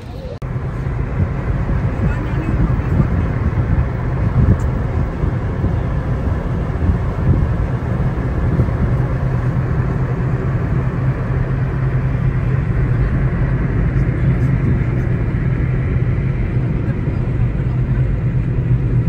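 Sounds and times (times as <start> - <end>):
low steady hum: 0.0 - 19.0
tyre and engine rumble: 0.0 - 19.0.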